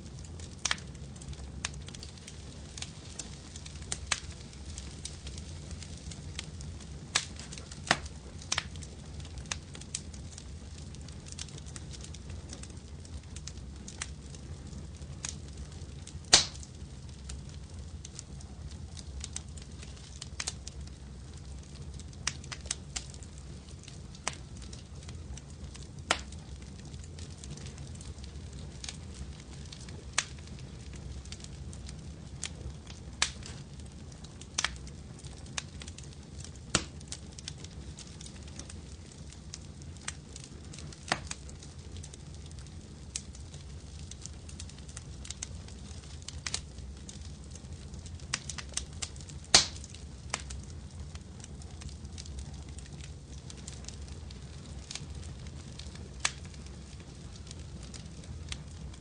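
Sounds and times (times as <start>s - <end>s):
wood fire crackling: 0.0s - 59.0s
sharp pops of fire: 0.2s - 59.0s.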